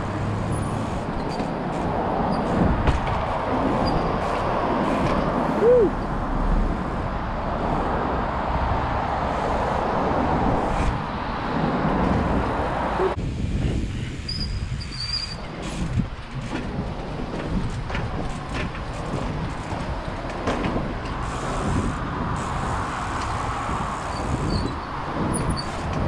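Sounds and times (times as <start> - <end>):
tyres rolling over pavement: 0.0 - 13.2, 13.9 - 26.0
wind rush on camera: 0.0 - 26.0.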